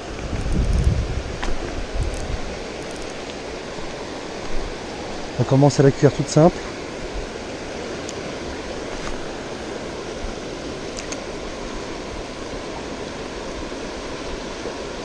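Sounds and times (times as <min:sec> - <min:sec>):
river rushing over rough water: 0:00.0 - 0:15.0.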